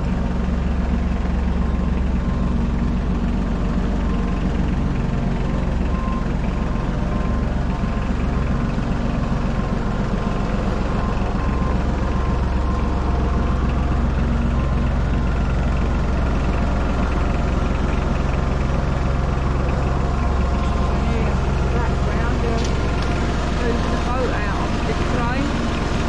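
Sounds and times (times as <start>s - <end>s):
heavy machine engine drone: 0.0s - 26.0s.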